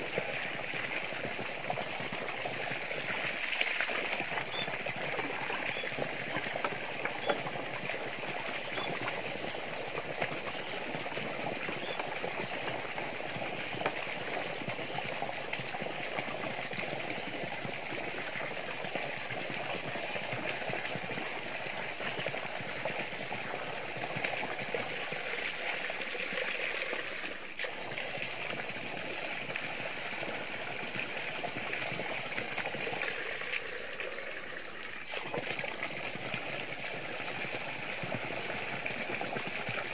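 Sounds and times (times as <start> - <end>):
water from hose splashing into drum: 0.0 - 39.9.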